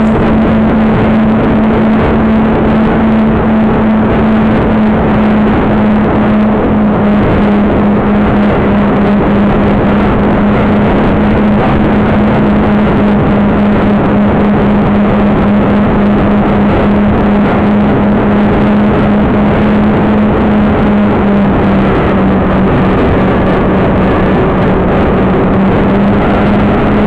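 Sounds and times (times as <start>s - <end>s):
low hum: 0.0s - 27.0s
wind buffeting microphone: 0.0s - 27.0s.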